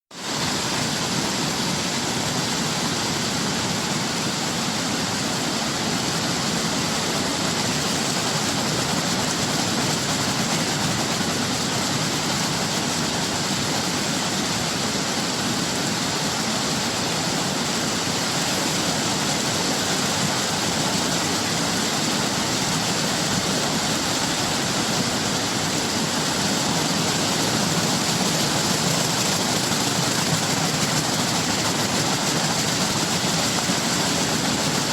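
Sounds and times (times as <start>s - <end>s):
waterfall roaring: 0.1s - 34.9s.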